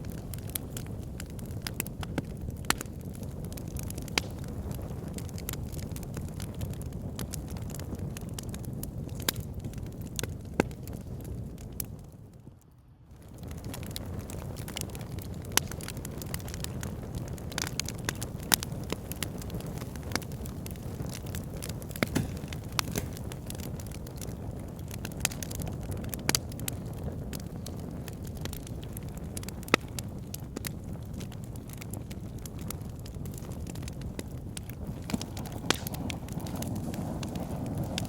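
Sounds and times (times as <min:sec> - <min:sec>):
fire pit crackling and popping: 0:00.0 - 0:38.0
low fire rumble: 0:00.0 - 0:38.0.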